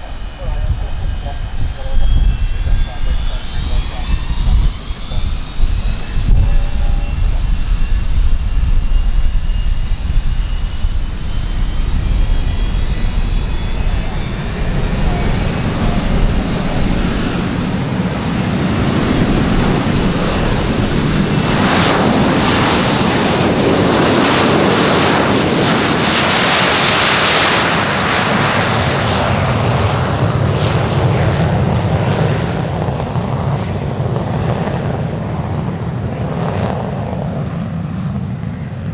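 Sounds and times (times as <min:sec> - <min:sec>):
crackling jet roar: 0:00.0 - 0:38.9
jet engines rumbling and whining: 0:00.0 - 0:38.9.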